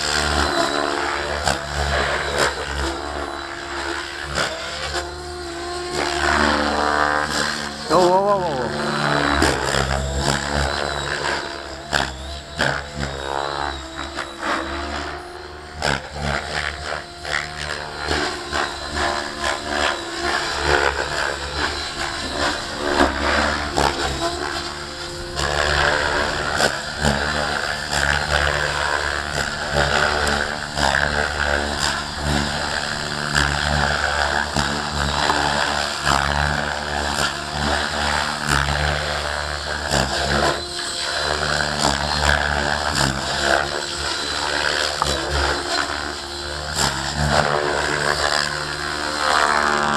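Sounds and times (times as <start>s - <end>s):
model helicopter motor and rotors: 0.0s - 49.9s.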